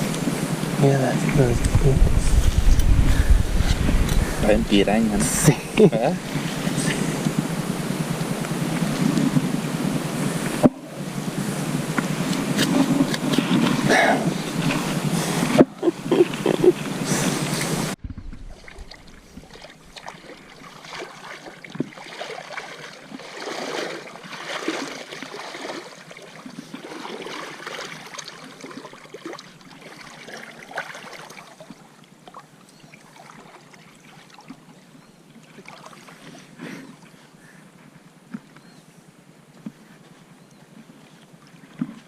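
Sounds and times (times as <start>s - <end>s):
river water sloshing and splashing: 0.0s - 37.4s.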